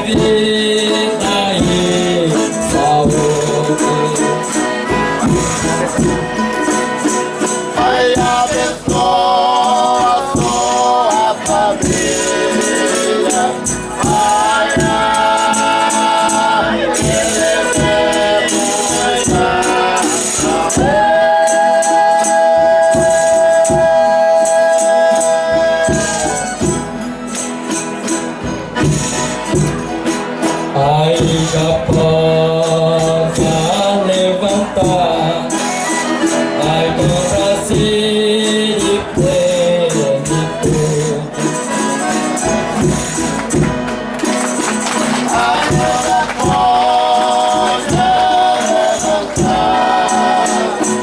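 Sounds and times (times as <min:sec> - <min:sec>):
group singing in several voices: 0:00.0 - 0:27.2, 0:28.9 - 0:51.0
tambourine strikes: 0:00.0 - 0:51.0.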